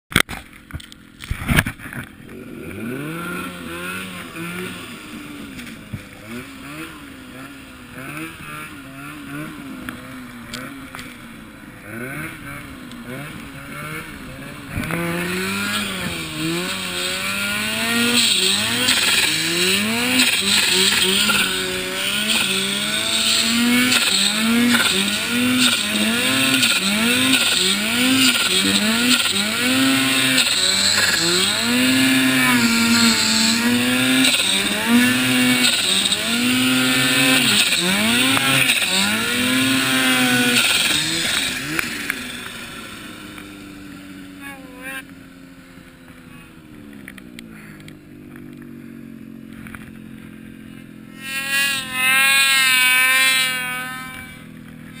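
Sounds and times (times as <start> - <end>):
snowmobile engine revving: 1.5 - 55.0.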